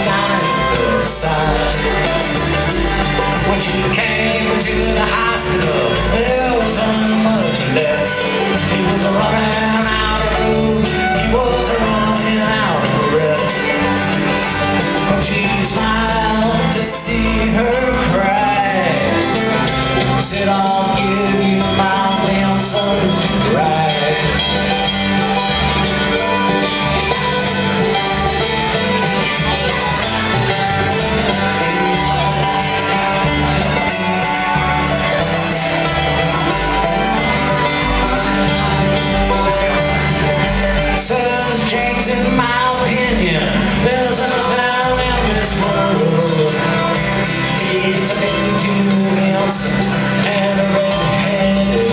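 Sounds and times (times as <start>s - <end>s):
bluegrass band playing: 0.0s - 51.9s.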